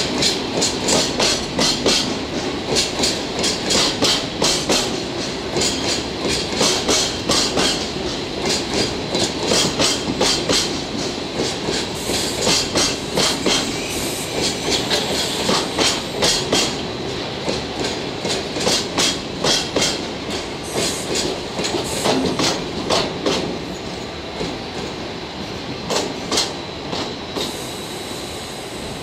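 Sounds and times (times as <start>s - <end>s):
steady train rumble: 0.0s - 29.0s.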